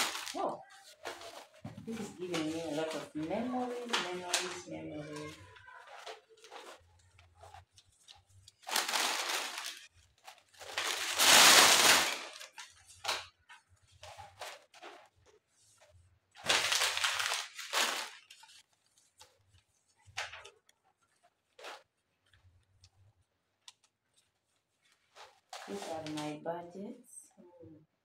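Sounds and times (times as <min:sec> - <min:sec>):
papers and packaging rustling: 0:00.0 - 0:26.4.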